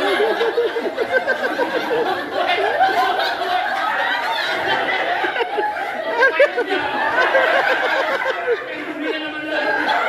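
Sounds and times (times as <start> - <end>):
chatter: 0.0 - 10.0
people laughing: 0.0 - 10.0.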